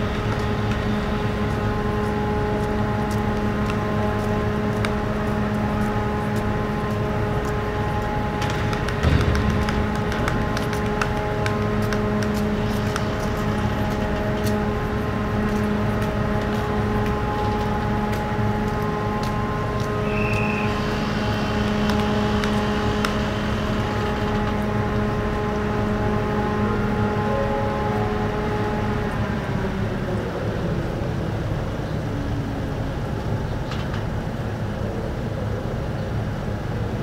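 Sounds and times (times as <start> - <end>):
ship engines humming: 0.0 - 37.0.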